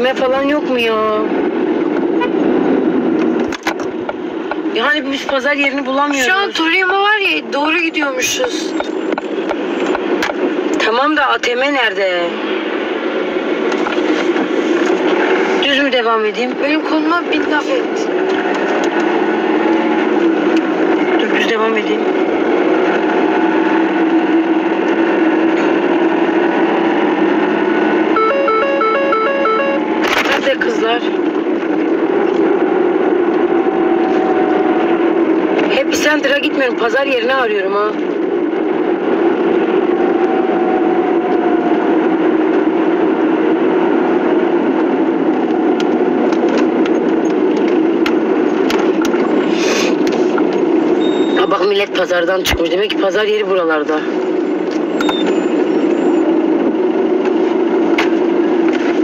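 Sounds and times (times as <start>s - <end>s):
car cabin engine and road drone: 0.0s - 59.0s.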